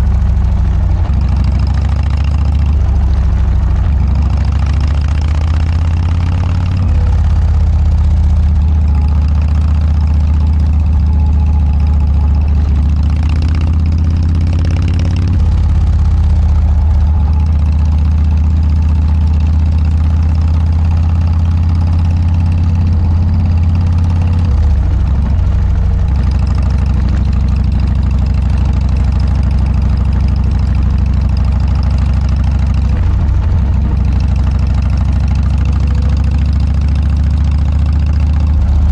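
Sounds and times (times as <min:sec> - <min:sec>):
motorcycle exhaust rumble: 0:00.0 - 0:38.9.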